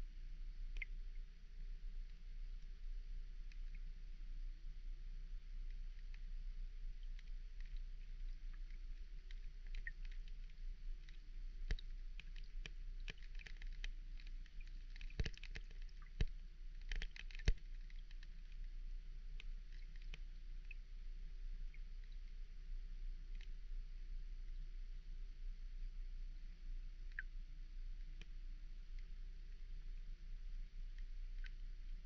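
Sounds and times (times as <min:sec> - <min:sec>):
faint low hum: 0:00.0 - 0:32.0
underwater clicks and crackles: 0:00.1 - 0:32.0.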